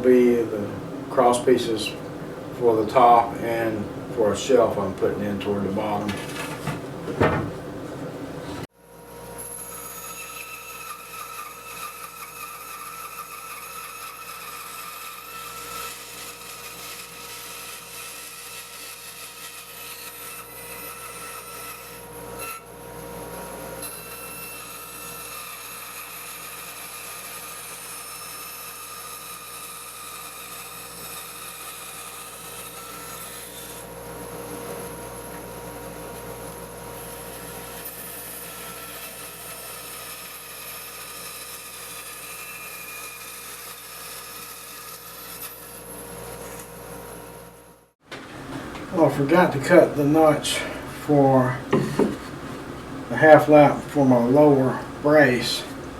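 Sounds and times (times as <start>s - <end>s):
band saw cutting wood: 0.0s - 6.8s, 9.2s - 47.6s, 48.9s - 55.9s.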